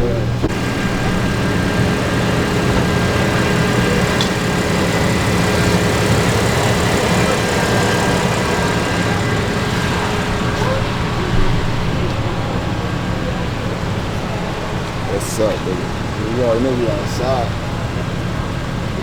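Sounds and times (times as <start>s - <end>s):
faint steady tones: 0.0s - 19.0s
low machine hum: 0.0s - 19.0s.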